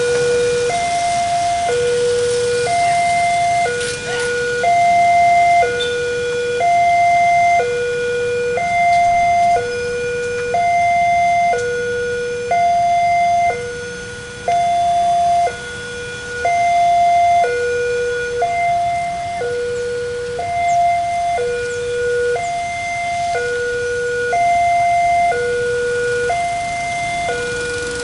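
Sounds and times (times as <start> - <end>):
two-tone level crossing alarm: 0.0 - 28.0.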